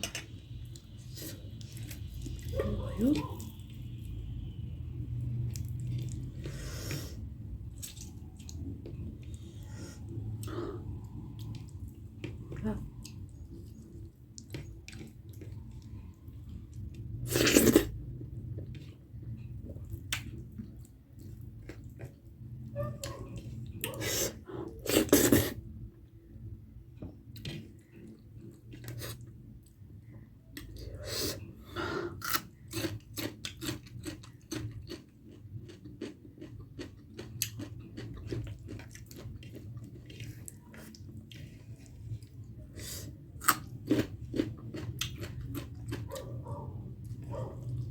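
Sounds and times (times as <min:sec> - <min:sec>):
chewing with crunchy bites: 0:00.7 - 0:04.2, 0:05.1 - 0:25.7, 0:27.0 - 0:47.9.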